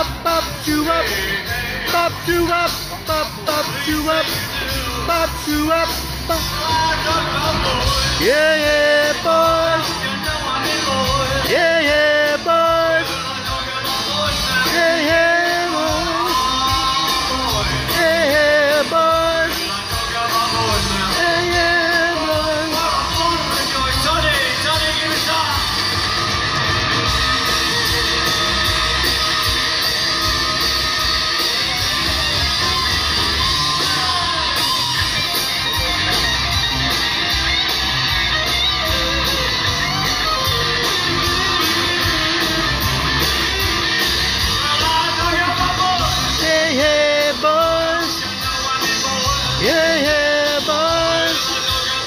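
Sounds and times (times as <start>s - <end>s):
electric guitar: 0.0s - 52.0s
live rock band playing: 0.0s - 52.0s.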